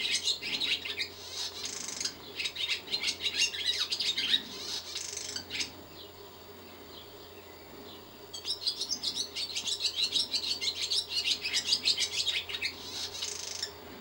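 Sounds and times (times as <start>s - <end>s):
swallow twittering: 0.0s - 13.8s.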